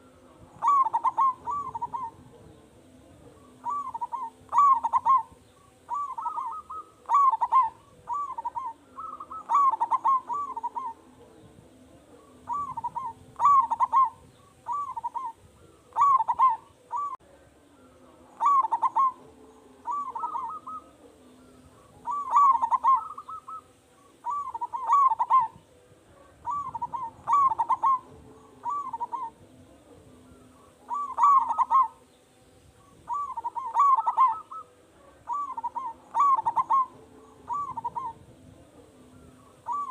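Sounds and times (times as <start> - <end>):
dove cooing: 0.0 - 32.1, 32.8 - 39.9.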